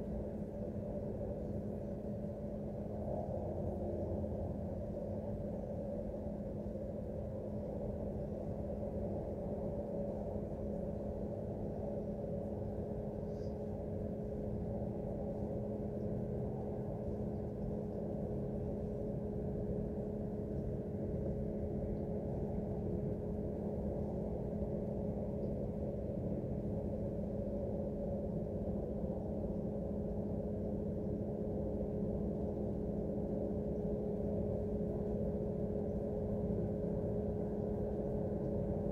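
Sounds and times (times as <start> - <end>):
industrial low rumble: 0.0 - 38.9
steady humming tones: 0.0 - 38.9.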